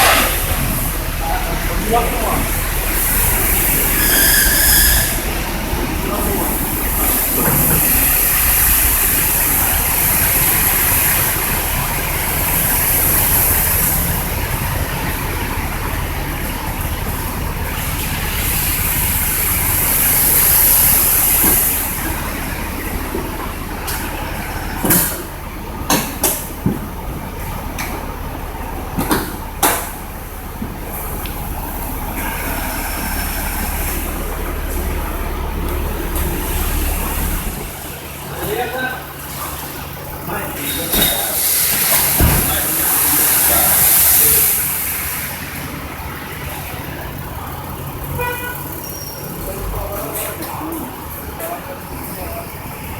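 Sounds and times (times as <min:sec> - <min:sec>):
convertible top motor running: 0:00.0 - 0:52.9.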